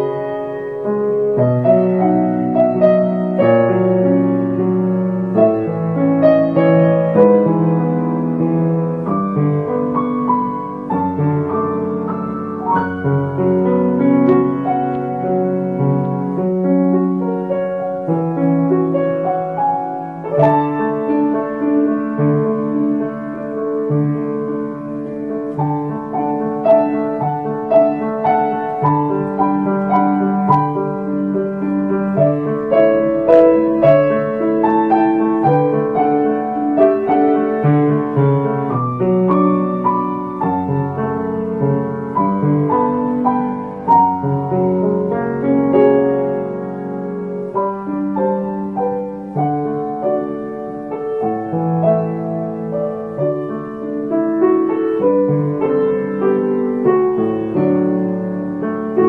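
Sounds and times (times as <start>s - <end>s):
slow grand piano piece: 0.0s - 59.0s.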